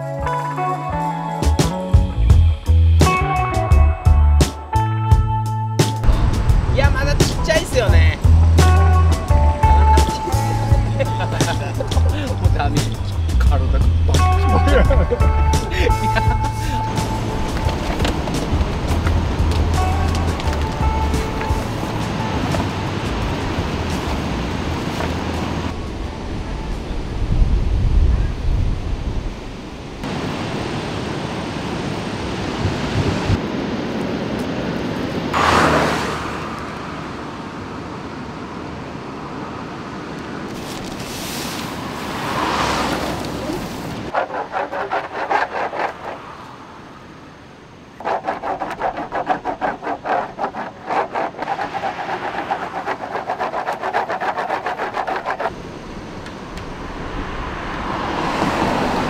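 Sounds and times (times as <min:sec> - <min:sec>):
cars passing on road: 0:05.8 - 0:28.0, 0:29.0 - 0:48.1, 0:50.3 - 0:59.0.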